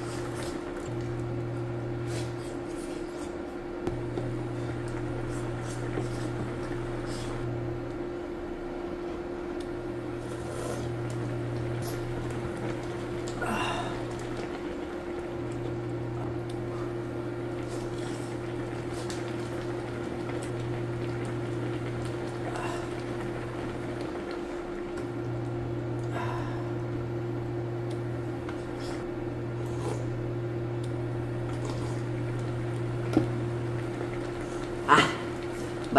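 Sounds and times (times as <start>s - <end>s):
electrical appliance hum: 0.0s - 35.9s.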